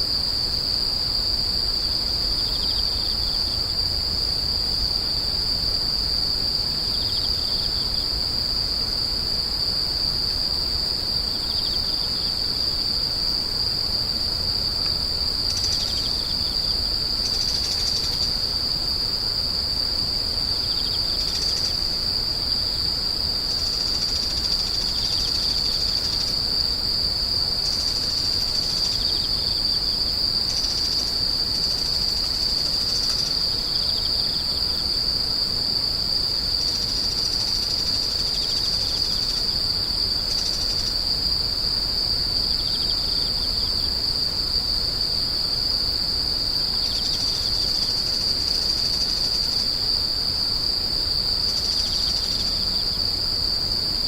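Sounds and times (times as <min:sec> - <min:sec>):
insects chirring: 0:00.0 - 0:54.0
lower insect call: 0:00.0 - 0:54.0.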